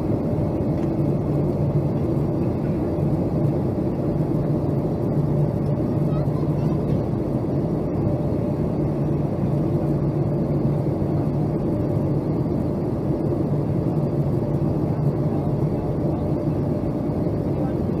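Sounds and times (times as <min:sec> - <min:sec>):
airliner cabin engine drone: 0:00.0 - 0:18.0.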